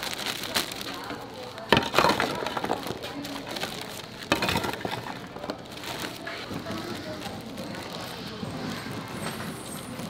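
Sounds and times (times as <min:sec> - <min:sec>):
puffed rice snack rattling: 0:00.0 - 0:08.4
plastic bag crinkling: 0:00.0 - 0:10.0.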